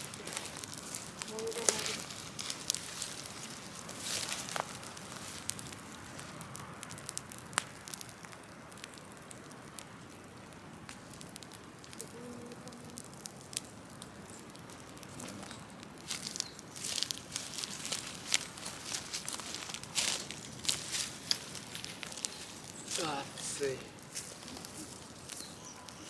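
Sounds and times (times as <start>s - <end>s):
large fire crackling and popping: 0.0s - 26.0s.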